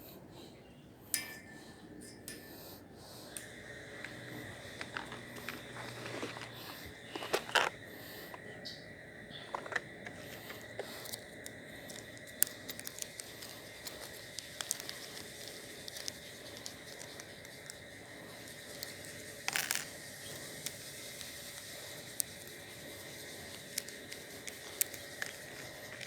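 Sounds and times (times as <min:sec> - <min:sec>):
fishing tackle clicking and rustling: 0:04.0 - 0:08.4, 0:09.4 - 0:26.0.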